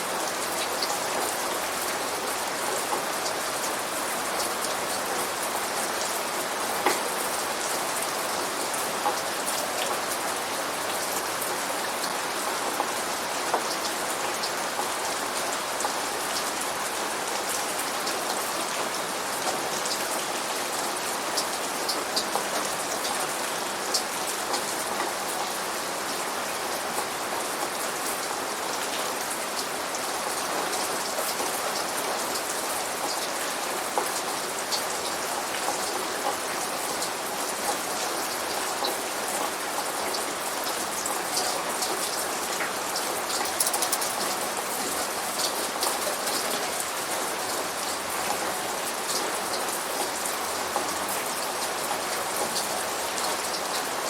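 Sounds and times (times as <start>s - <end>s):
raindrops pattering and dripping: 0.0s - 54.0s
steady rain hiss: 0.0s - 54.0s.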